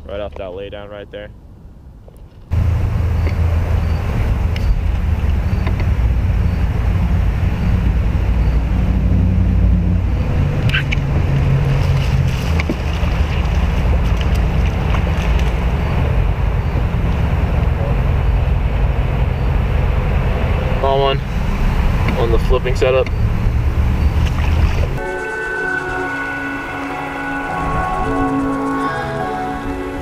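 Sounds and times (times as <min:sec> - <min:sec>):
boat engine rumble: 0:01.4 - 0:30.0.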